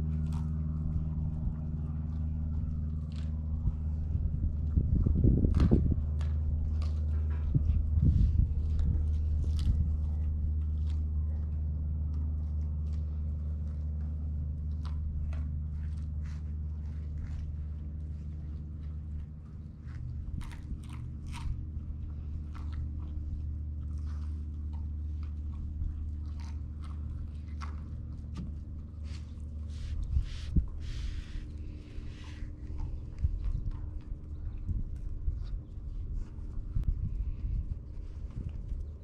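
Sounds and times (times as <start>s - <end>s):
dogs crunching bones: 0.0s - 39.0s
steady low hum: 0.0s - 39.0s.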